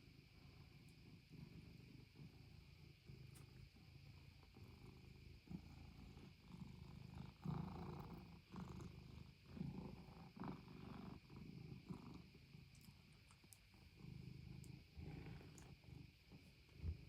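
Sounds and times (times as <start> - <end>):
cat purring softly: 0.0 - 17.0.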